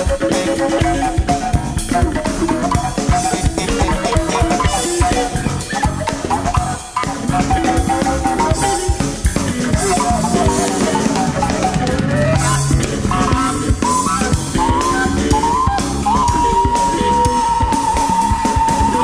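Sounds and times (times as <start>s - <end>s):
drum kit with rimshots: 0.0s - 19.0s
jazz band playing: 0.0s - 19.0s.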